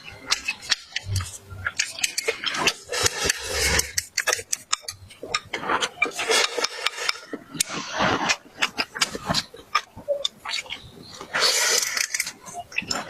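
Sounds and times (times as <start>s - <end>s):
person chewing and crunching food: 0.1s - 13.0s.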